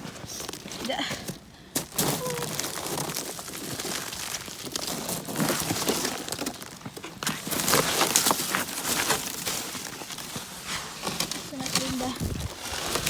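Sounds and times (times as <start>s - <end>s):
icy snow crunching: 0.0s - 13.0s.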